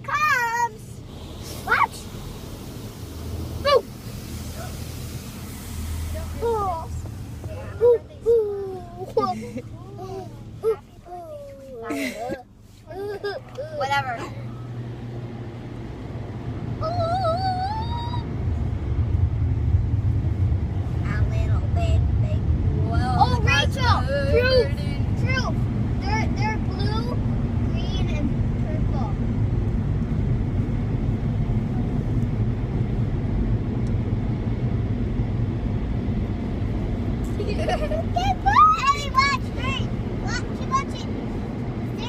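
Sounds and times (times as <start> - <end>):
car wash machinery rumbling: 0.0 - 42.0.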